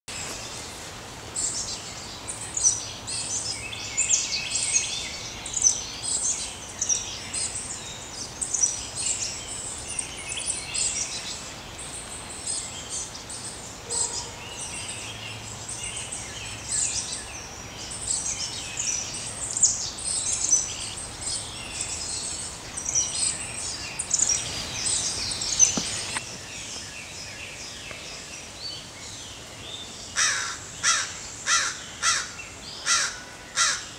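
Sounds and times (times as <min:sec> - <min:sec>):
songbirds chirping and trilling: 0:00.1 - 0:33.9
steady background hiss: 0:00.1 - 0:33.9.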